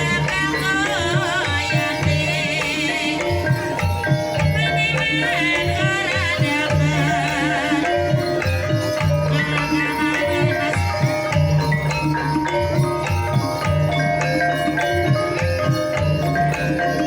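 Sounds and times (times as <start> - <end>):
gamelan music: 0.0 - 17.0
metallophone notes: 0.0 - 17.0.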